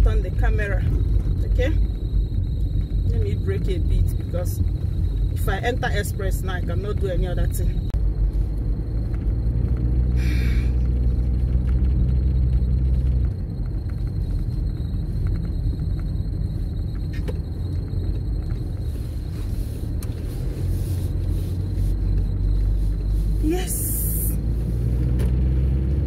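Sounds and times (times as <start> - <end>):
car cabin rumble: 0.0 - 26.0.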